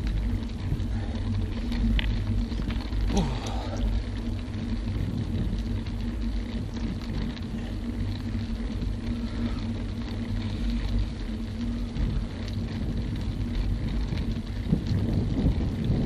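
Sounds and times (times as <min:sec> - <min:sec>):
bike tyres rolling on asphalt: 0:00.0 - 0:16.0
faint steady hum: 0:00.0 - 0:16.0
wind on microphone: 0:00.0 - 0:16.0.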